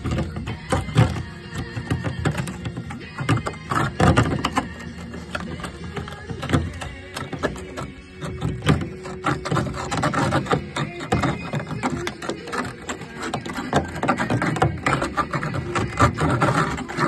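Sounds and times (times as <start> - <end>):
screwdriver scraping metal: 0.0 - 17.0.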